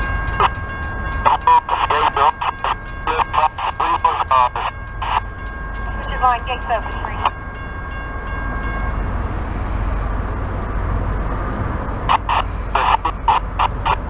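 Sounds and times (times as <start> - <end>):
crossing warning bell: 0.0 - 14.0
train rumble: 0.0 - 14.0.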